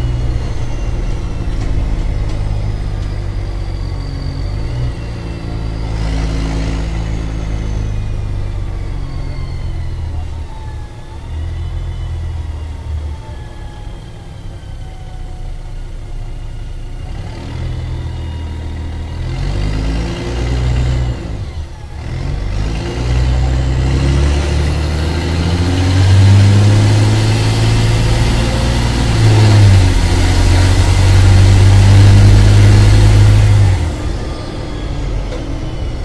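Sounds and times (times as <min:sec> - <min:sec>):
bus diesel engine accelerating: 0:00.0 - 0:36.0.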